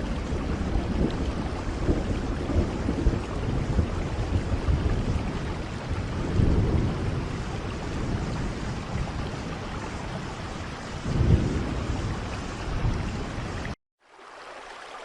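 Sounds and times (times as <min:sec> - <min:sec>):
distant thunder rumbling: 0:00.0 - 0:13.8
steady rain: 0:00.0 - 0:15.0.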